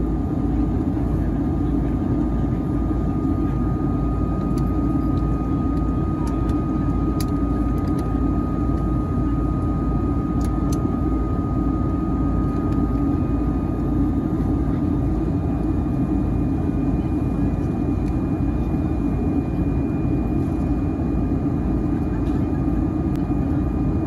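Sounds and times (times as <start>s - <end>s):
jet engine rush in cabin: 0.0s - 24.0s.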